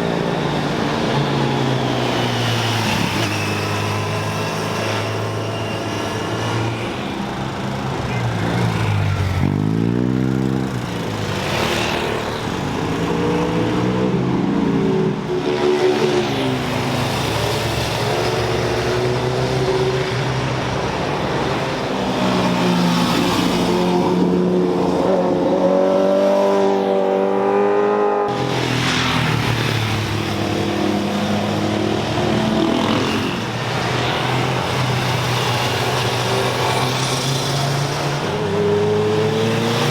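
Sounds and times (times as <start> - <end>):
high-revving engines passing: 0.0 - 39.9.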